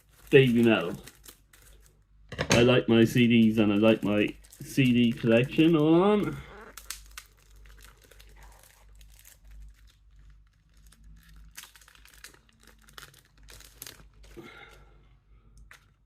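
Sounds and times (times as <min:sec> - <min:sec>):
packaging crinkling and rustling: 0:00.0 - 0:02.0, 0:02.6 - 0:14.8.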